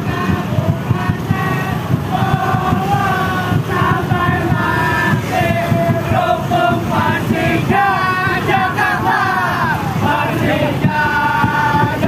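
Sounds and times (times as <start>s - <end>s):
crowd chanting: 0.0s - 12.0s
motorcycle and bus engines rumbling: 0.0s - 12.0s.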